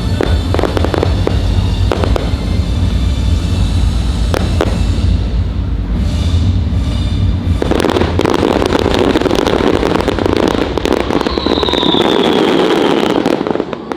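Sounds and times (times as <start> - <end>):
falling firework whistle: 0.0 - 13.9
fireworks crackling: 0.0 - 13.9
fireworks rumble: 0.0 - 13.9.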